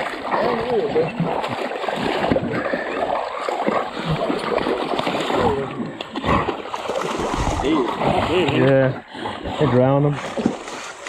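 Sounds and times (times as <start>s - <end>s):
floodwater splashing and sloshing: 0.0s - 11.0s.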